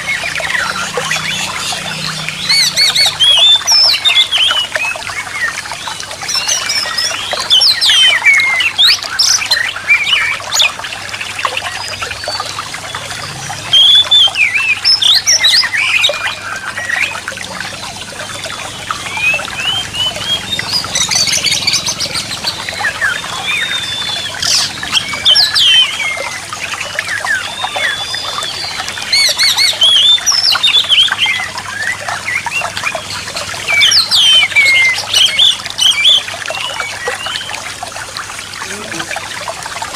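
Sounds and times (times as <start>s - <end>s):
songbird singing whistles and chirps: 0.0s - 10.8s, 11.4s - 37.7s.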